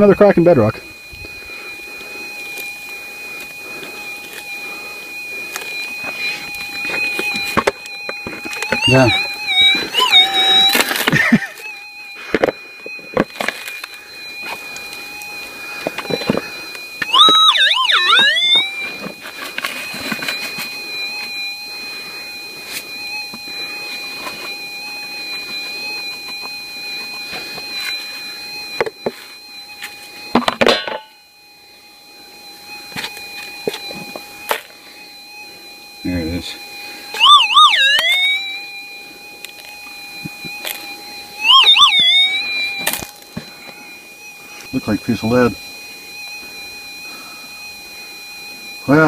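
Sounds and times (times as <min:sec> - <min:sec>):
metal detector threshold tone: 0:00.0 - 0:31.3, 0:36.0 - 0:46.9.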